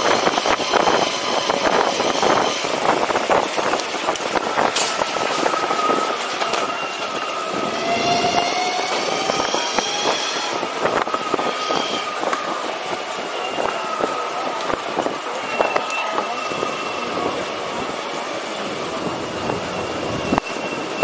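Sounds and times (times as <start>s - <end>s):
wheels on rough road: 0.0s - 21.0s.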